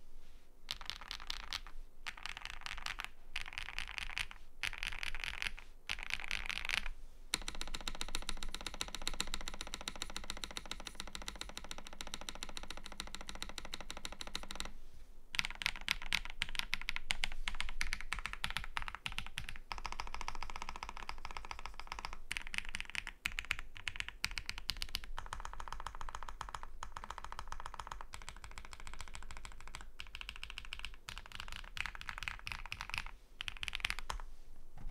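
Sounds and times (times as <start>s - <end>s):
mechanical keyboard typing: 0.7s - 14.7s, 15.3s - 34.2s.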